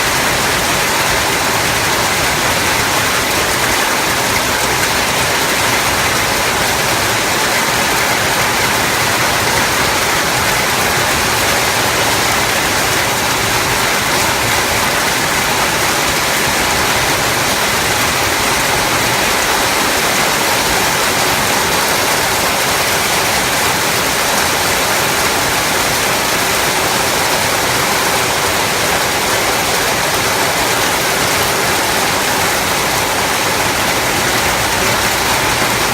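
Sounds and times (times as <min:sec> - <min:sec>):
hail and heavy rain: 0:00.0 - 0:35.9.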